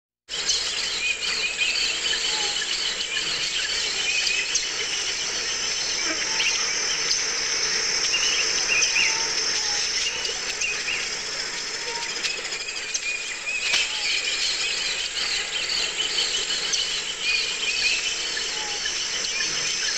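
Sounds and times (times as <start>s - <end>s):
birds chirping and whistling: 0.3s - 19.9s
insect chorus: 0.3s - 19.9s.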